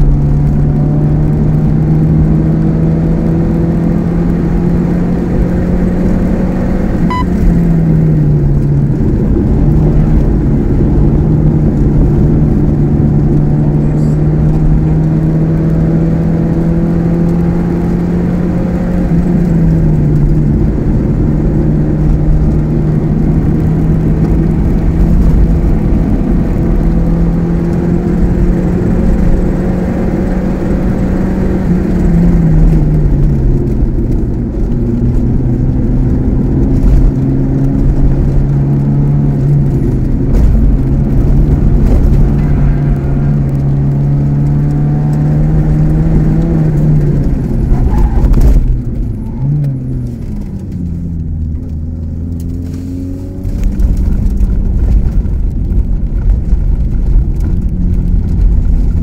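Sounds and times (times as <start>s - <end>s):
car engine running hard: 0.0s - 59.0s
tyre and road noise: 0.0s - 59.0s.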